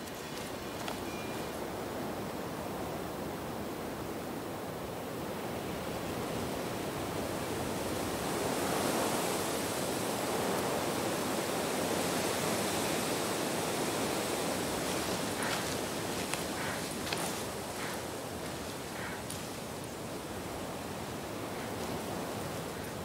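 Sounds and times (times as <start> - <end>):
wind rushing in trees: 0.0 - 23.0.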